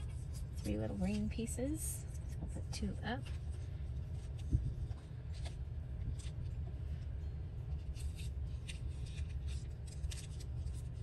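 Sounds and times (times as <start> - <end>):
paper rustling: 0.0 - 2.4, 3.1 - 7.1, 7.7 - 11.0
steady low hum: 0.0 - 11.0.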